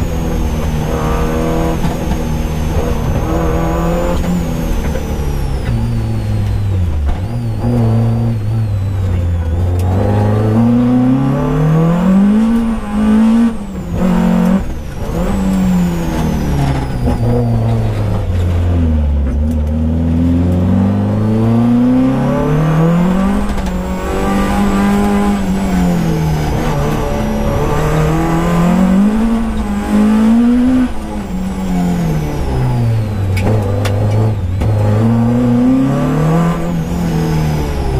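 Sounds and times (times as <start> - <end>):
rally car engine from cabin: 0.0 - 37.9.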